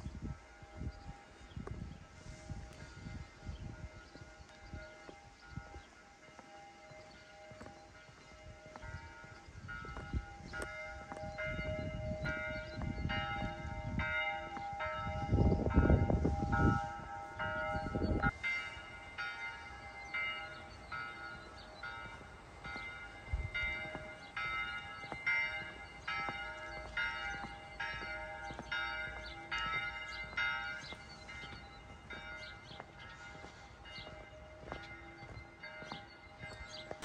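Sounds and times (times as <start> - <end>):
church bell ringing: 0.0 - 37.0.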